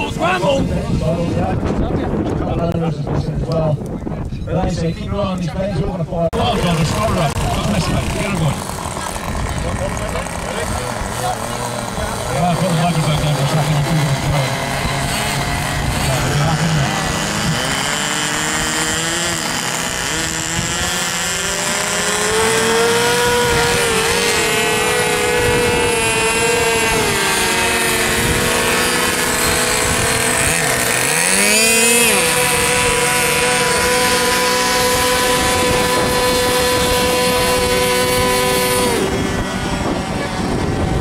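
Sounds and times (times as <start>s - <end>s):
model aircraft engines whining: 3.8s - 41.0s.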